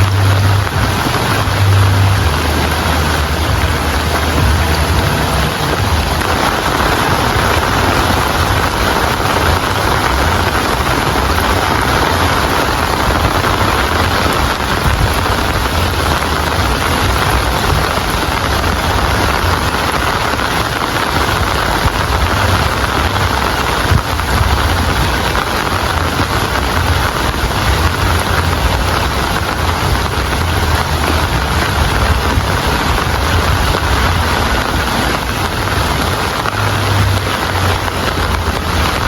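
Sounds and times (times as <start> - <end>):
heavy rain: 0.0 - 39.0
low rumble: 0.0 - 39.0.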